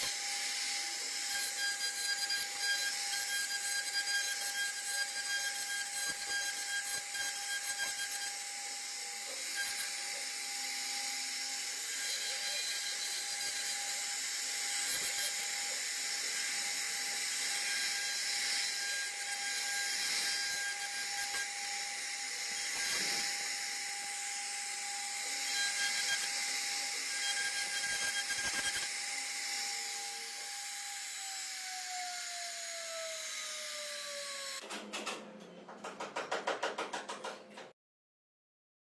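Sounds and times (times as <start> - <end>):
router spindle whining: 0.0 - 34.6
bit cutting wood: 0.0 - 35.0.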